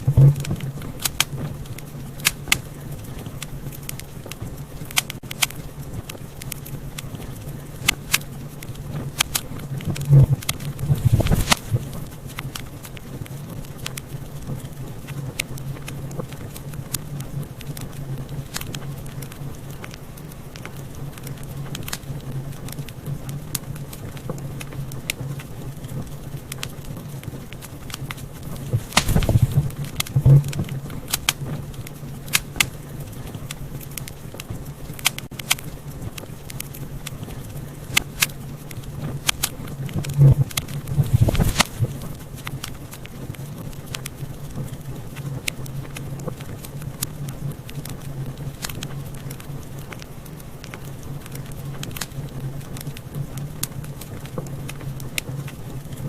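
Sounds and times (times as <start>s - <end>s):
low hum: 0.0s - 26.6s, 27.6s - 56.0s
fire crackling in a fireplace: 0.0s - 56.0s.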